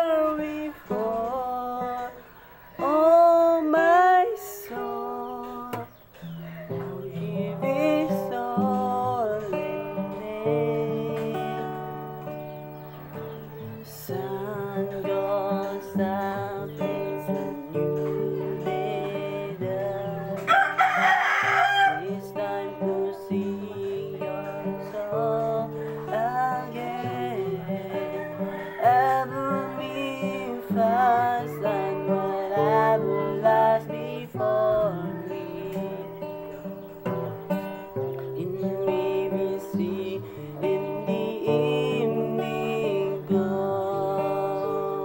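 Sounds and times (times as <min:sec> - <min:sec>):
acoustic guitar: 0:00.0 - 0:45.0
man singing: 0:00.0 - 0:45.0
rooster crowing: 0:00.0 - 0:45.0.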